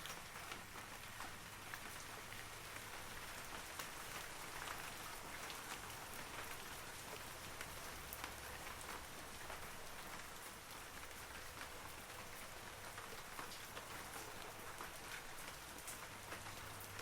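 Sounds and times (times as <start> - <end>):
rain falling on trees: 0.0 - 17.0.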